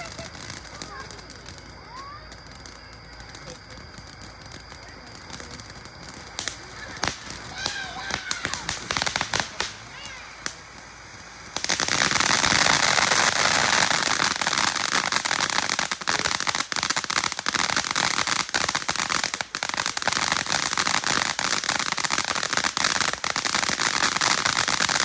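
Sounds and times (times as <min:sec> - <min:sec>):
fountain firework crackling: 0:00.0 - 0:25.0.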